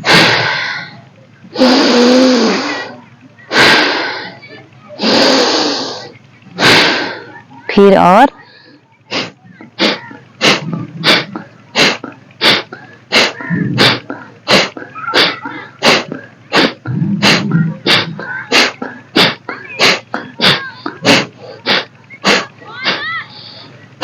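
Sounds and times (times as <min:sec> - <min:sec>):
forceful nasal exhalations: 0:00.0 - 0:04.4, 0:05.0 - 0:07.3, 0:09.1 - 0:23.7.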